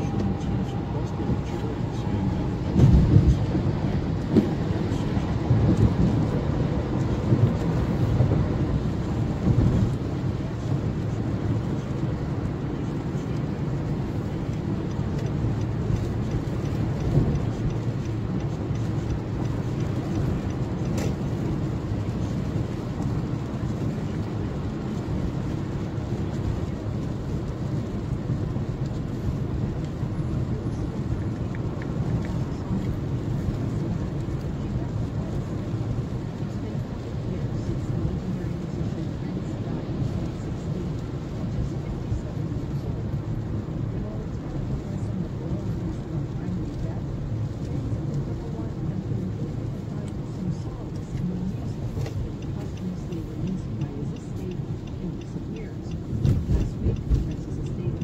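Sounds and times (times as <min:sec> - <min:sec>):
car tyres rumbling on wet road: 0:00.0 - 0:58.0.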